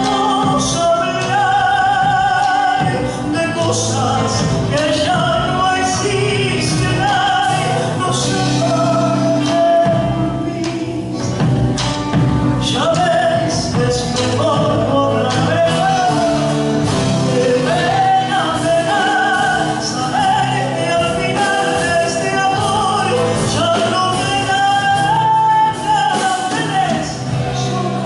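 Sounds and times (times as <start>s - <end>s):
instrumental accompaniment: 0.0s - 28.0s.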